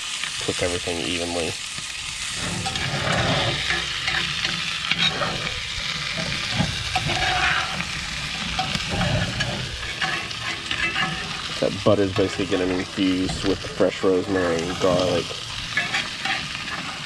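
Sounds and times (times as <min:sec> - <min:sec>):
butter sizzling in a skillet: 0:00.0 - 0:17.0
metal spoon scraping a pan: 0:02.2 - 0:17.0.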